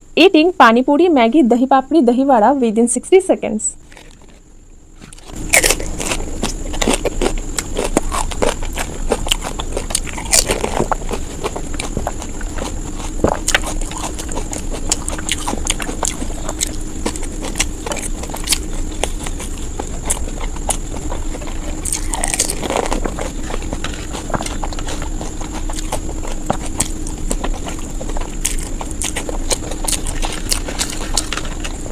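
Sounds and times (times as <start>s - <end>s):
faint hum: 0.0s - 31.9s
person crunching and chewing food: 3.8s - 31.9s.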